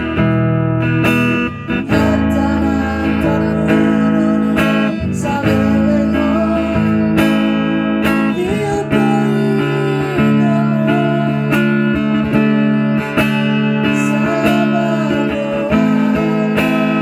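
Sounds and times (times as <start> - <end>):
acoustic guitar strumming: 0.0 - 17.0
person singing: 1.6 - 17.0.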